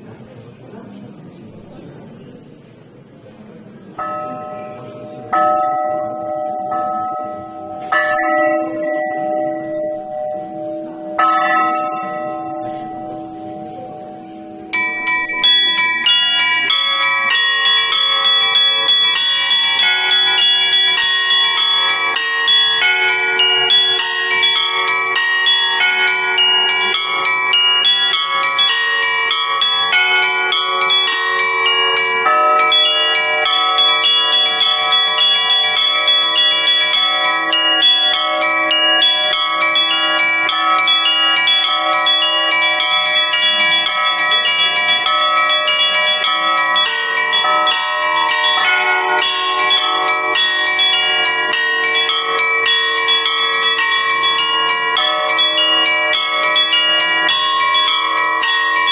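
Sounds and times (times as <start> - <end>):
church bells ringing: 3.7 - 58.9.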